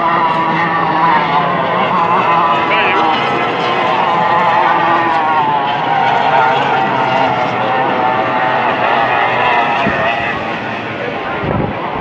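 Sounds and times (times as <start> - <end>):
powerboat engine high whine: 0.0 - 12.0.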